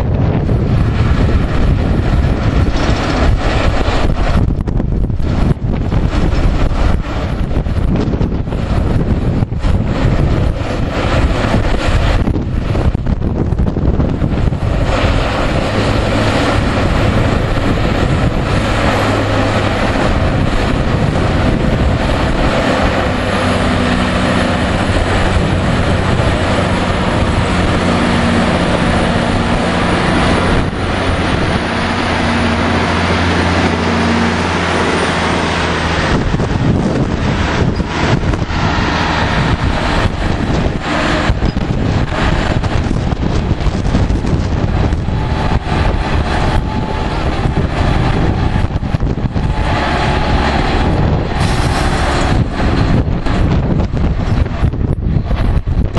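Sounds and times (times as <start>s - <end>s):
diesel locomotive engine drone: 0.0s - 55.9s
wind buffeting microphone: 0.0s - 55.9s.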